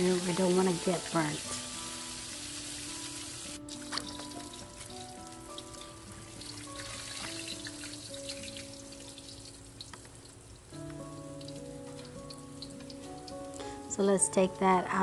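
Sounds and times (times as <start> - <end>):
oil sizzling and crackling: 0.0 - 14.1
soft background music: 0.0 - 15.0.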